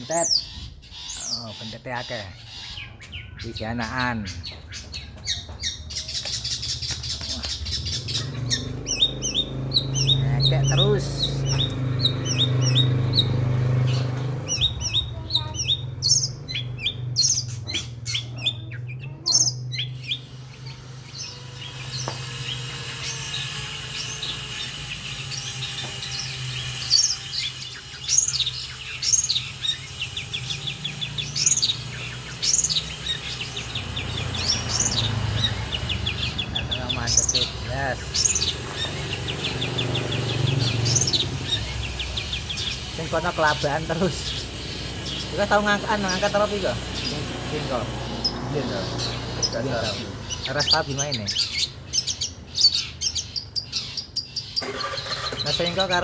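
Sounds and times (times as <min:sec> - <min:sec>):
bird chirping and cackling: 0:00.0 - 0:56.0.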